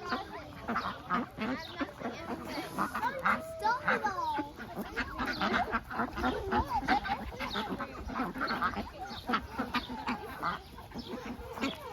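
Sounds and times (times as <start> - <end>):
ducks quacking: 0.0 - 11.9.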